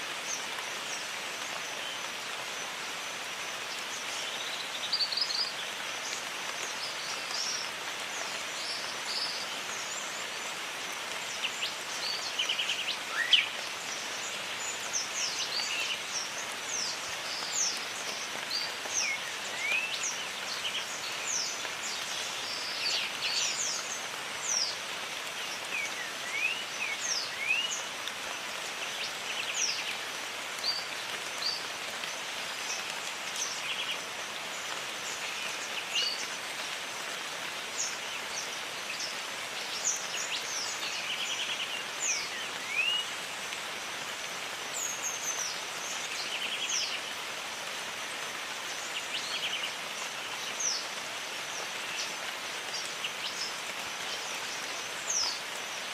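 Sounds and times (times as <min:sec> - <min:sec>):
rain hissing: 0:00.0 - 0:55.9.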